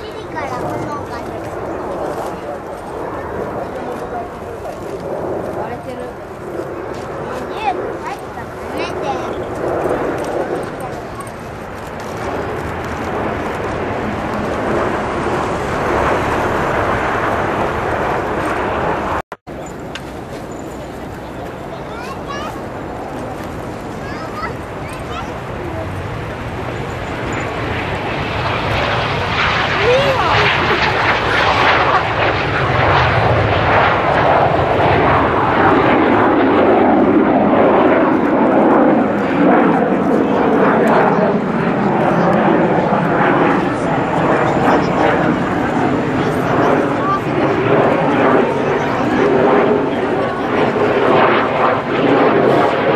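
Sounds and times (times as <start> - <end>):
jets flying past: 0.0 - 52.9.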